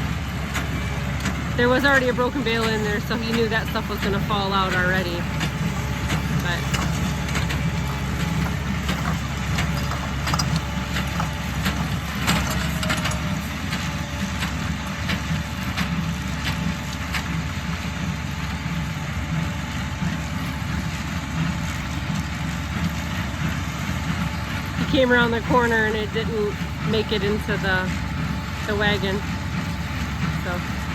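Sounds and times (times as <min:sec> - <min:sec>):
hay baler knocking and clunking: 0:00.0 - 0:30.9
tractor engine running: 0:00.0 - 0:30.9.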